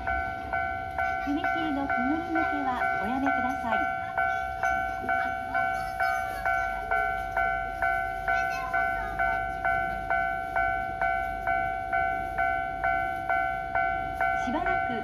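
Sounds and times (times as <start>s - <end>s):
level crossing warning bell ringing: 0.0s - 15.0s.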